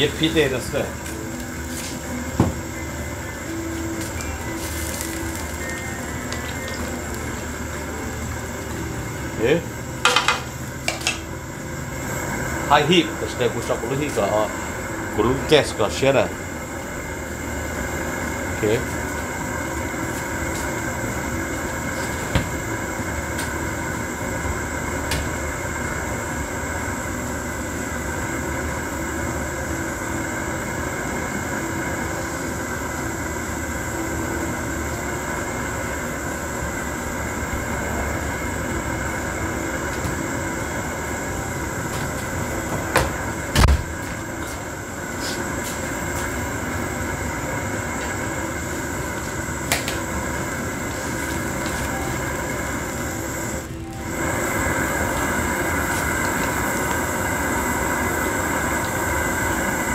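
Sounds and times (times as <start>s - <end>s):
gas stove burner roaring: 0.0s - 59.9s.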